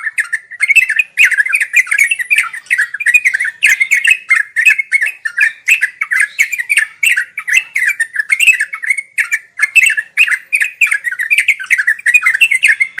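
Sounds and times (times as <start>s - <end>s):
bulbul singing: 0.0s - 13.0s.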